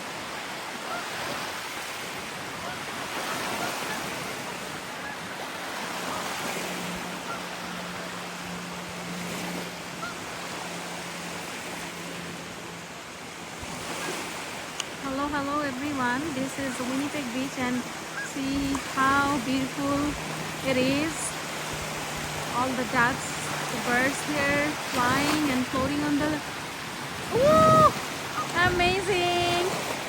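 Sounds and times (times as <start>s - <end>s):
waves washing onto beach: 0.0s - 30.0s
wind: 0.0s - 30.0s.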